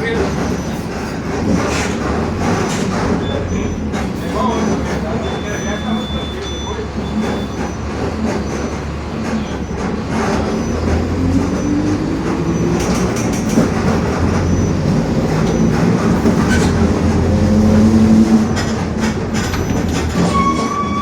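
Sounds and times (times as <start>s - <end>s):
bus body rattles: 0.0s - 21.0s
bus diesel engine running: 0.0s - 21.0s.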